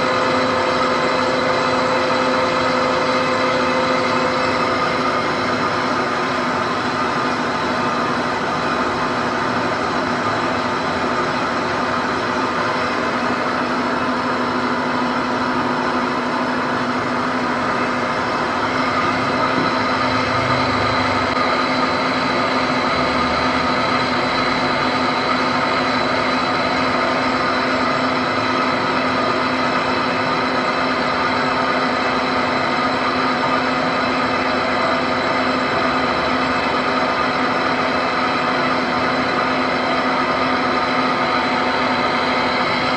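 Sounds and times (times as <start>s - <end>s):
lathe humming: 0.0s - 42.9s.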